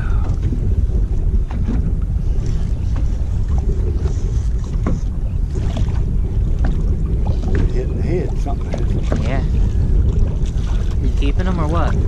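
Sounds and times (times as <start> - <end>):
water lapping against hull: 0.0 - 12.0
wind rumble on microphone: 0.0 - 12.0.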